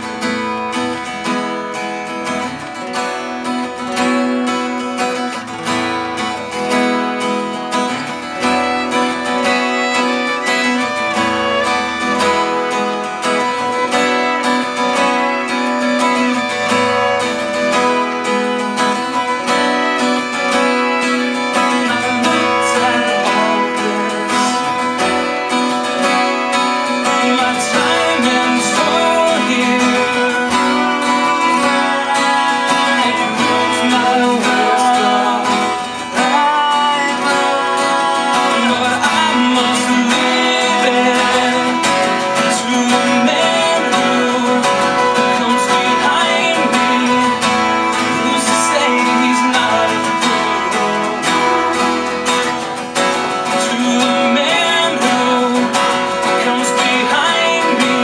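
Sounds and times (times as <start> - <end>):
acoustic guitars strumming: 0.0 - 58.0
violin playing: 6.0 - 53.4.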